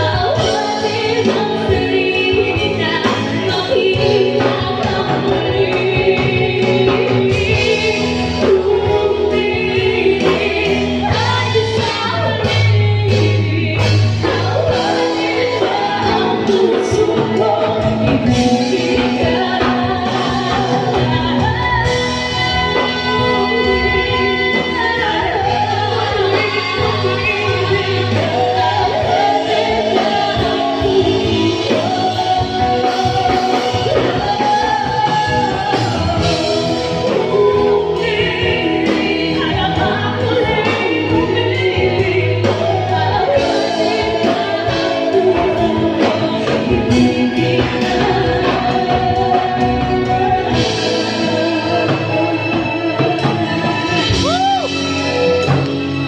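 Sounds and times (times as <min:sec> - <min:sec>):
live band music: 0:00.0 - 0:56.0
two women singing: 0:00.0 - 0:56.0.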